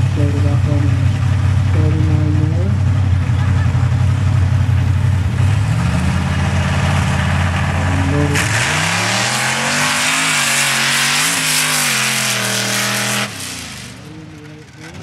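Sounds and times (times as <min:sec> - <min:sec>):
truck engines rumbling and revving: 0:00.0 - 0:15.0.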